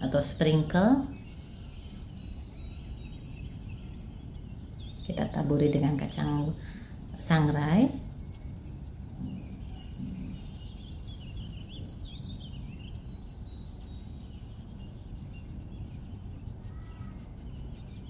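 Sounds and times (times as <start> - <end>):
birds chirping: 0.0 - 18.0
low background rumble: 0.0 - 18.0.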